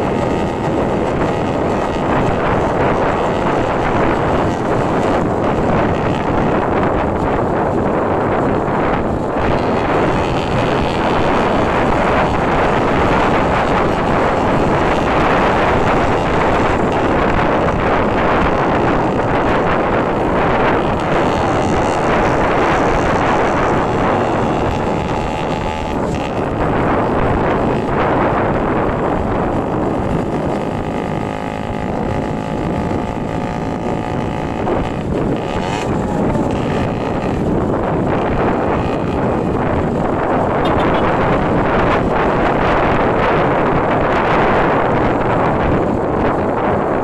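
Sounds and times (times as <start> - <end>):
vehicle engine running: 0.0 - 47.0
wind rushing over microphone: 0.0 - 47.0.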